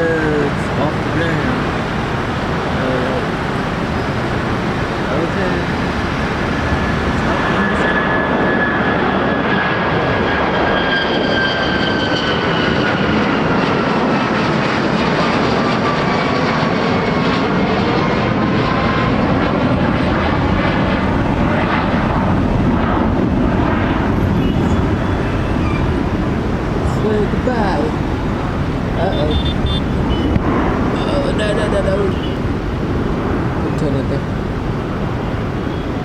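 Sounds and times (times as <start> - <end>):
jet engine roar with whine: 0.0 - 36.0.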